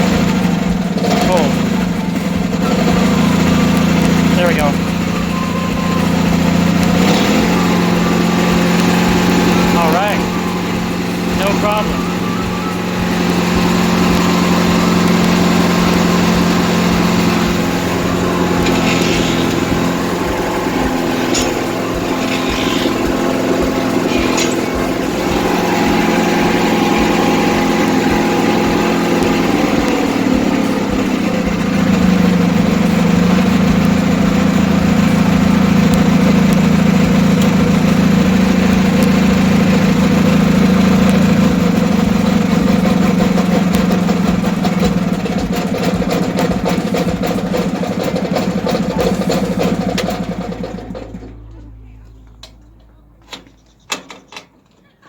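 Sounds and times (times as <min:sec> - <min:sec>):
garden tractor engine running: 0:00.0 - 0:55.0.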